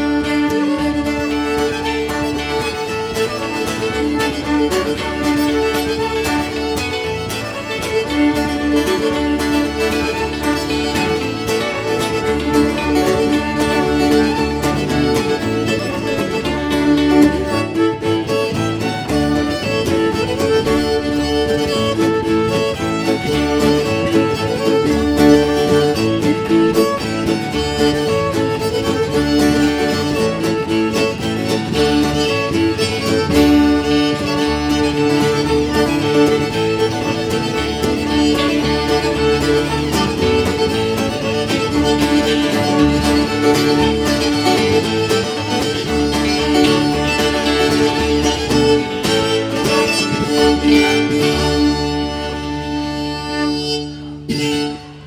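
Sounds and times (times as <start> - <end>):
fiddles playing a reel: 0.0 - 55.0
plucked double bass: 0.0 - 55.0
strummed acoustic guitars: 0.0 - 55.0.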